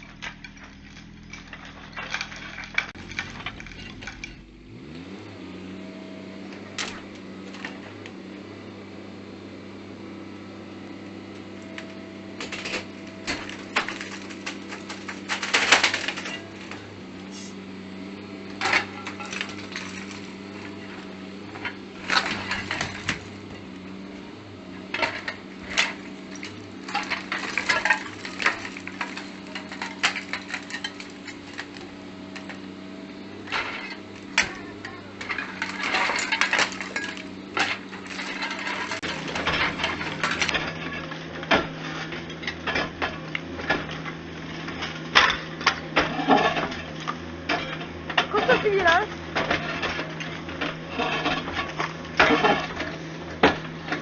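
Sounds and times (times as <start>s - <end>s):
rubble and metal debris clattering: 0.0s - 8.7s, 9.4s - 54.0s
excavator engine running: 0.0s - 54.0s.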